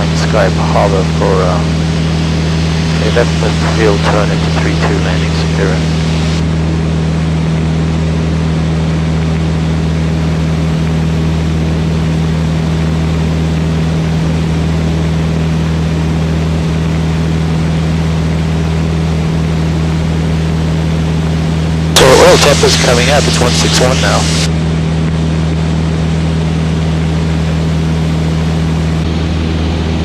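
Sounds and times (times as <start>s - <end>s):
light aircraft engine drone: 0.0s - 24.5s, 25.1s - 30.0s.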